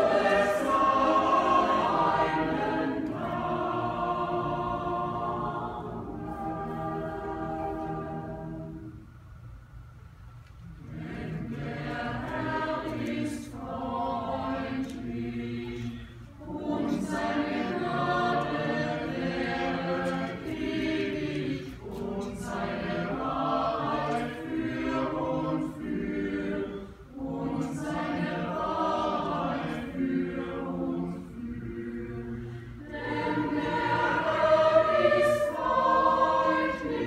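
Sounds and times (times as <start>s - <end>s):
mixed choir singing: 0.0s - 9.0s, 10.7s - 37.0s.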